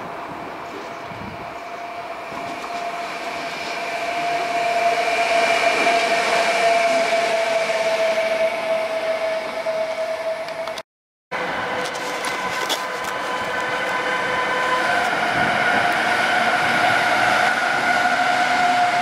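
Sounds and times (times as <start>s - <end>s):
electric locomotive whine: 0.0s - 10.8s, 11.4s - 19.0s
rail noise: 0.0s - 19.0s.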